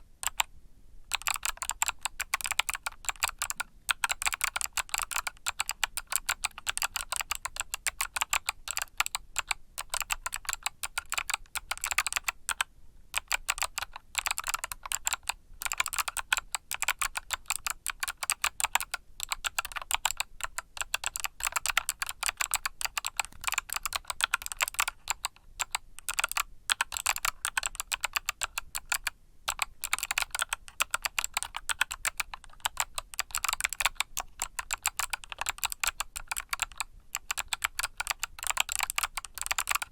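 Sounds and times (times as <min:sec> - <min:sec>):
mechanical keyboard typing: 0:00.2 - 0:00.5, 0:01.1 - 0:39.9.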